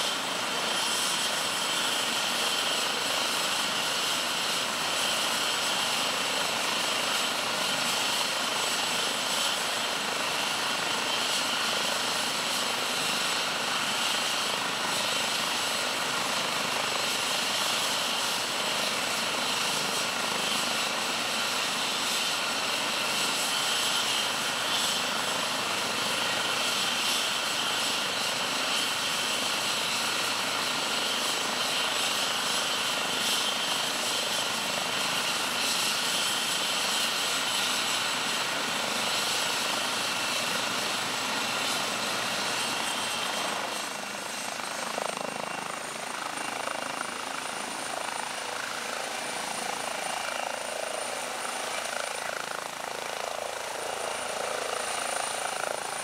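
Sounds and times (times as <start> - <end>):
helicopter turbine whine: 0.0 - 56.0.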